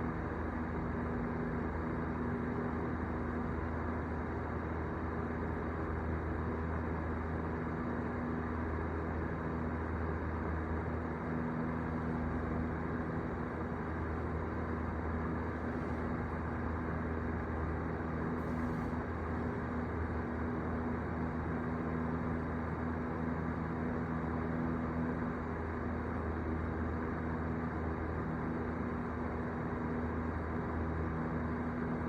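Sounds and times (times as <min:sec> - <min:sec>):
mechanical drone with low hum: 0:00.0 - 0:32.0.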